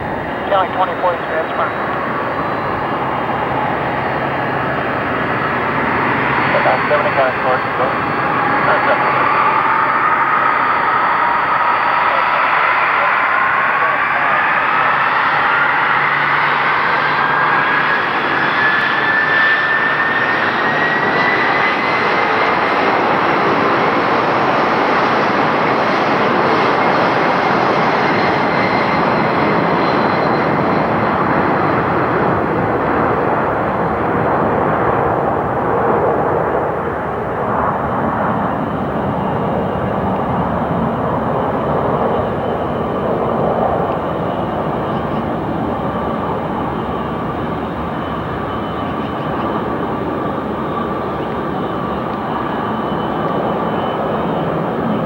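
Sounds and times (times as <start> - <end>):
jet engines at takeoff: 0.0 - 55.0.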